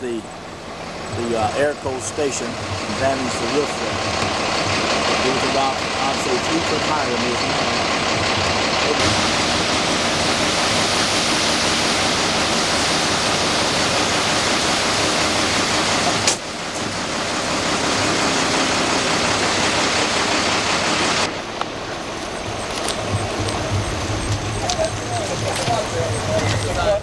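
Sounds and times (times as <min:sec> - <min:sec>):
rushing floodwater: 0:00.0 - 0:27.0.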